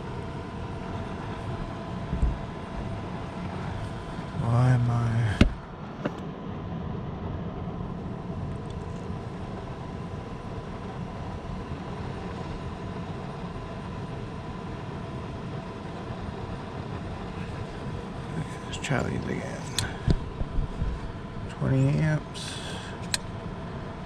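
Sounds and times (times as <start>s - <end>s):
air handler blower running: 0.0s - 24.0s.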